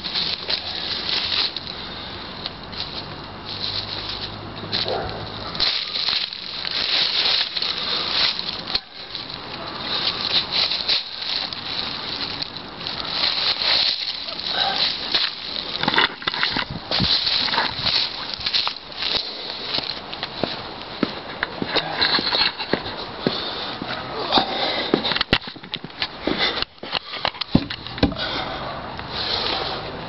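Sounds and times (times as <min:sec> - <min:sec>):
dry leaves crunching underfoot: 0:00.0 - 0:30.0.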